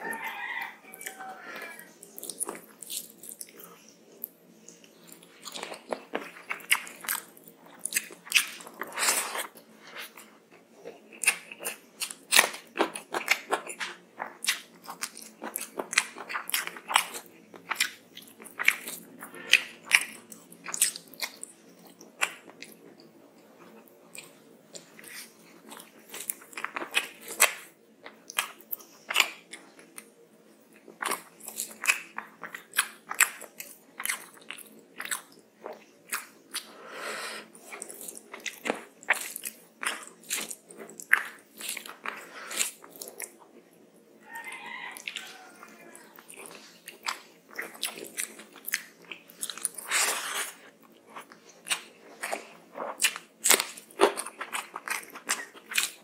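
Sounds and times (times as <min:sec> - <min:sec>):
chewing and crunching: 0:00.0 - 0:36.8, 0:37.5 - 0:56.0.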